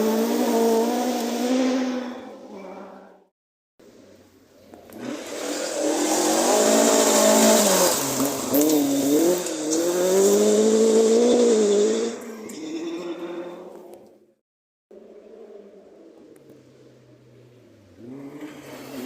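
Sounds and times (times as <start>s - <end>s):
rally car engine revving: 0.0s - 3.3s, 4.6s - 14.0s, 15.0s - 19.0s.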